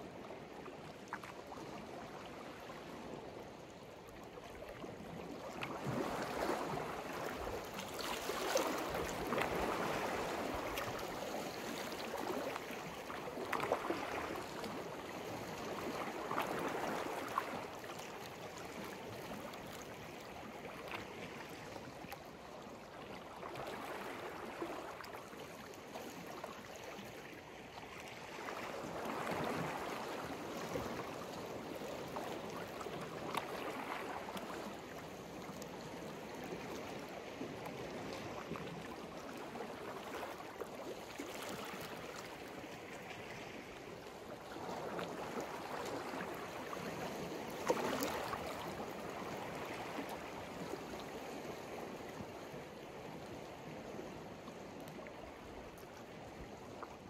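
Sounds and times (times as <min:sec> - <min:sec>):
sea waves washing on shore: 0:04.5 - 0:57.0.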